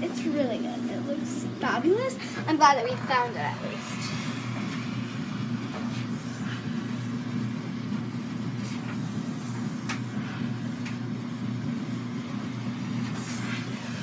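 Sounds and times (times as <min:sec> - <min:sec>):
garment steamer buzzing: 0:00.0 - 0:14.0.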